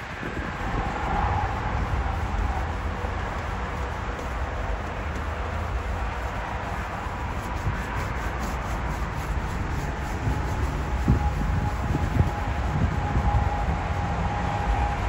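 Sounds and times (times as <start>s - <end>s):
steady low rumble: 0.0s - 15.0s
cloth scrubbing metal sign: 1.7s - 13.8s.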